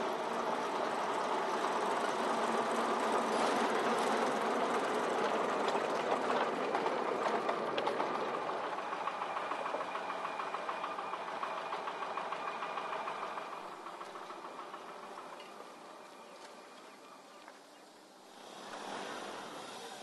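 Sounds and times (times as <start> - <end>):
diesel locomotive engine beat: 0.0 - 20.0
tubs rattling on track: 0.0 - 20.0.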